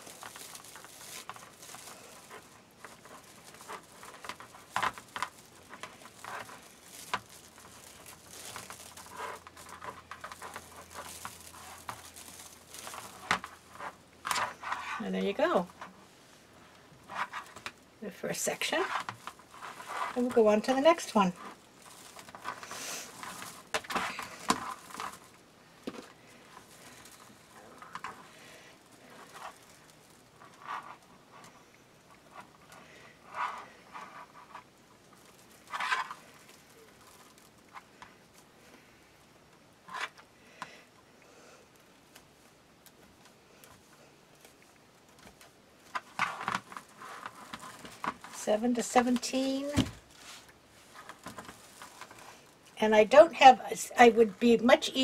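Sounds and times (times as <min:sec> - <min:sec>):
plastic mesh rustling and crinkling: 0:00.0 - 0:41.0, 0:41.7 - 0:55.0.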